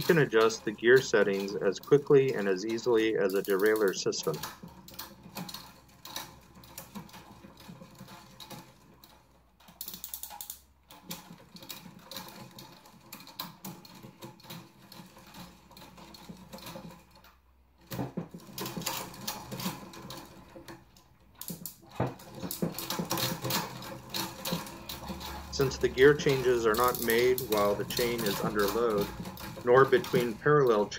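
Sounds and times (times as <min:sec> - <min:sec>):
bicycle chain clicking and rattling: 0:00.0 - 0:30.9.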